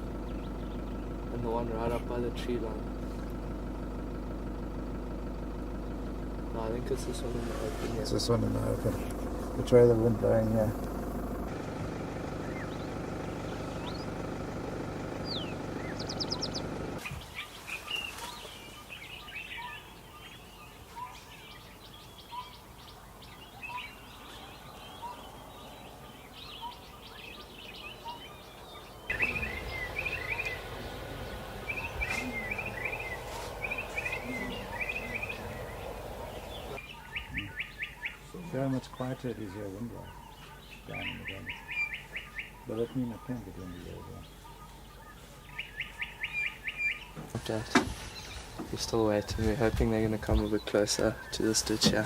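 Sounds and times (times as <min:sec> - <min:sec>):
birds chirping and calling: 0:00.0 - 0:52.0
vehicle engine idling: 0:00.0 - 0:52.0.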